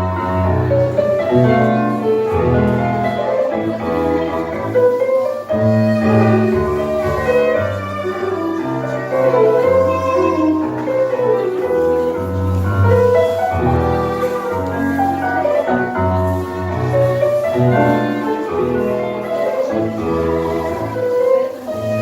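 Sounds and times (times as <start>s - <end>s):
bowed strings: 0.0s - 22.0s
piano: 0.0s - 22.0s.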